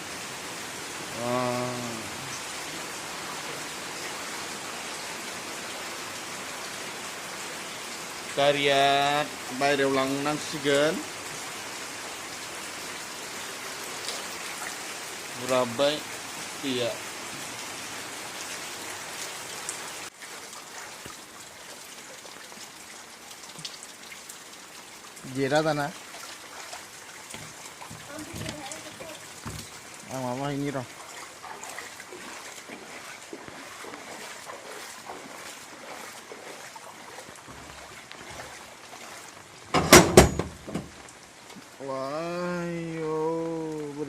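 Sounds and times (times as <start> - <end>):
hiss of running water: 0.0 - 39.8
rain falling: 0.0 - 44.0.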